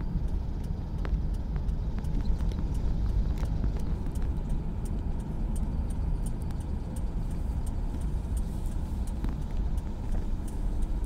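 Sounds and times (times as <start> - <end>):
engine and tyre rumble: 0.0 - 11.0
faint ticks: 0.0 - 11.0.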